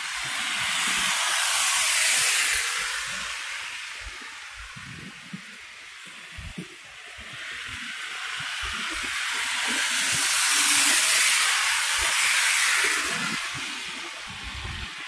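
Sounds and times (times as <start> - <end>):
tyre hiss through wet snow: 0.0 - 15.0.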